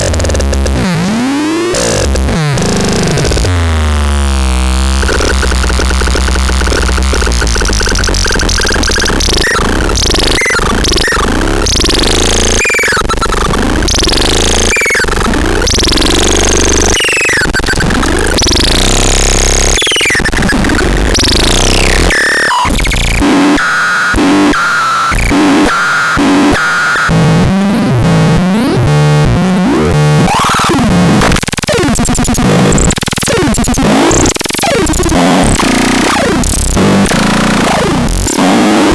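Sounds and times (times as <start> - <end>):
glitchy stuttering synth notes: 0.0 - 38.9.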